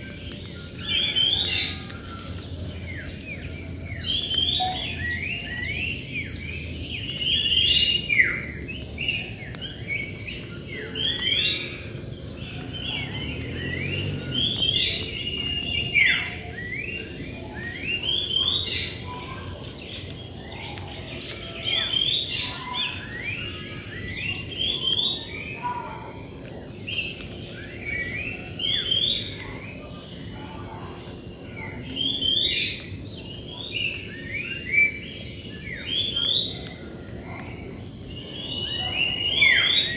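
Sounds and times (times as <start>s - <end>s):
birds chirping and singing: 0.0s - 39.9s
high insect drone: 0.0s - 39.9s.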